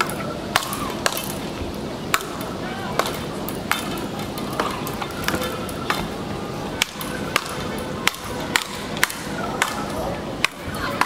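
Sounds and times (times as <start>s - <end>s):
rackets striking ball: 0.0s - 11.0s.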